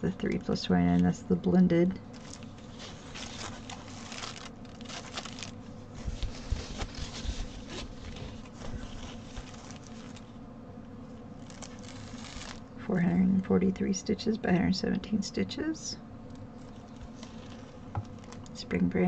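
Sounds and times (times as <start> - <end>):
canvas rustling and crinkling: 0.0 - 12.8, 16.2 - 19.0.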